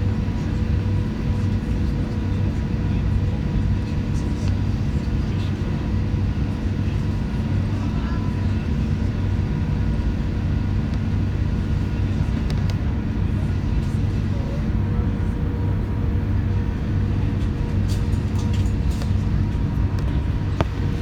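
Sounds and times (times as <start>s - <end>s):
aircraft engine rumble in cabin: 0.0s - 21.0s.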